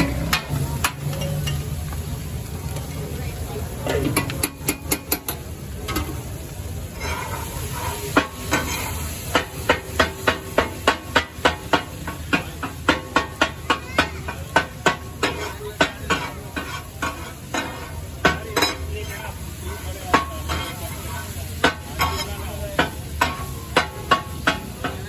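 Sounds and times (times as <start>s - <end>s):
metal spatula striking griddle: 0.0s - 1.7s, 4.0s - 6.2s, 7.0s - 25.0s
faint sizzle: 0.0s - 25.0s.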